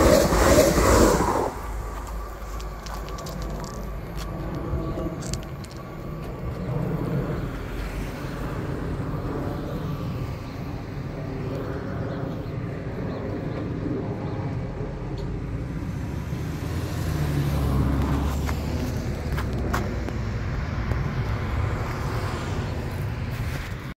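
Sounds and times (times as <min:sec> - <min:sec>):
car passing: 0:00.0 - 0:23.8.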